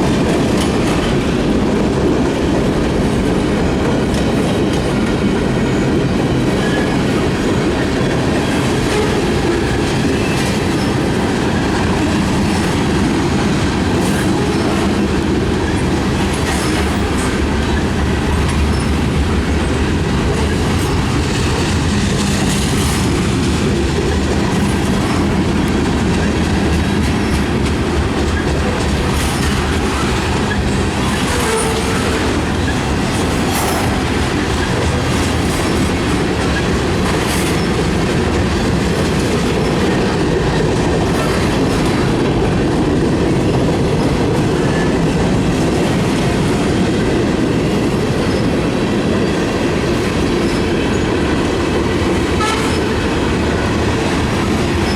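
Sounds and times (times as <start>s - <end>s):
train wheels clattering over rail joints: 0.0s - 54.9s.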